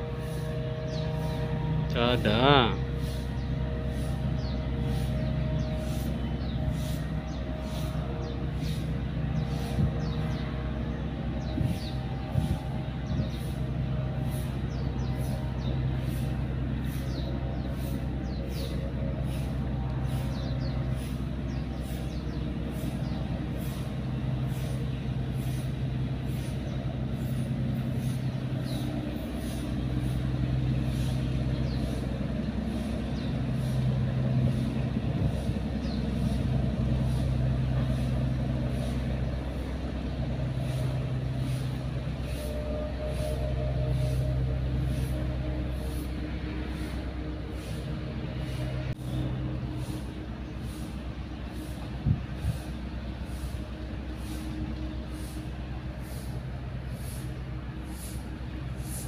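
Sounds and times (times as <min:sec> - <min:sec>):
faint high pulsing: 0:00.0 - 0:59.0
low mechanical hum: 0:00.0 - 0:59.0.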